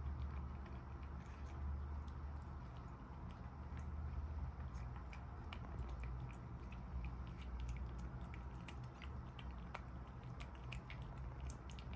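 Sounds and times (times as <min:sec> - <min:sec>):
kitten chewing and lapping: 0:00.0 - 0:11.9
low steady hum: 0:00.0 - 0:11.9.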